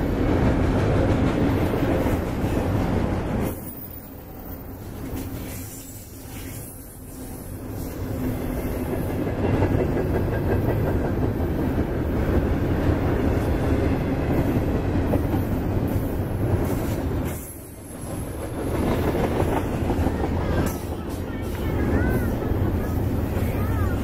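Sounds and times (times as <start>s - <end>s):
train wheels rolling on rails: 0.0s - 24.0s.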